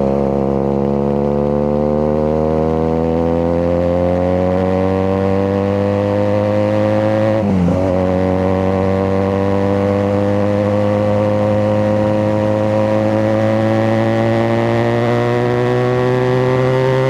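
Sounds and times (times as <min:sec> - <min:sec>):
motorcycle exhaust accelerating: 0:00.0 - 0:17.0.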